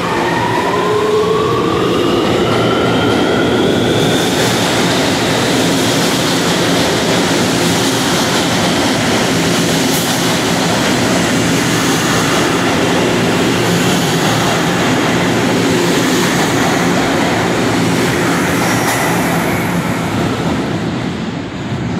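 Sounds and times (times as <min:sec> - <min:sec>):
steel wheels rumbling on rail: 0:00.0 - 0:21.9.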